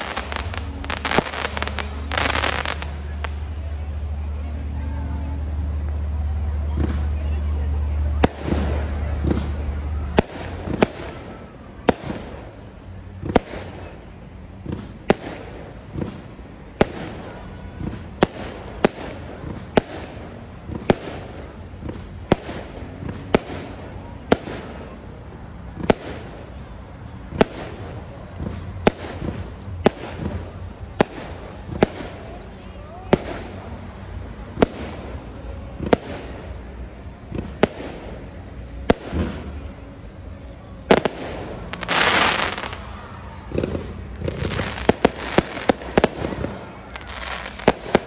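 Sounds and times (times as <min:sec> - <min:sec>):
fireworks bursting with bangs: 0:00.0 - 0:48.0
fireworks rumble: 0:00.0 - 0:48.0.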